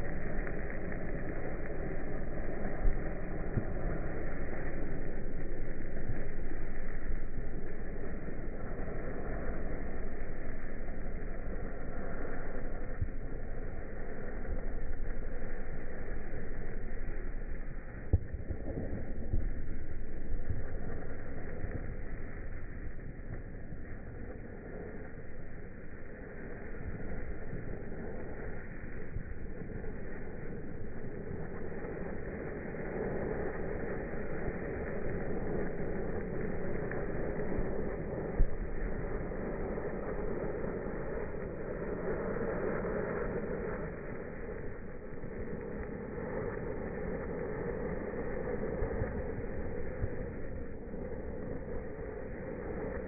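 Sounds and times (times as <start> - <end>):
firework fountain rushing: 0.0 - 53.0.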